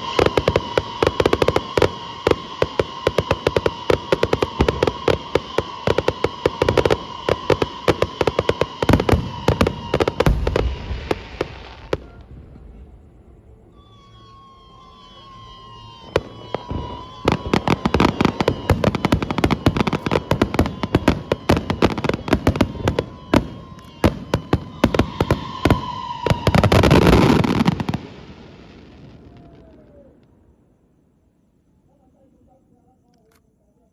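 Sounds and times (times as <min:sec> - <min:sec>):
distant fireworks bangs and crackles: 0:00.0 - 0:30.2
fireworks whistling: 0:00.0 - 0:30.9.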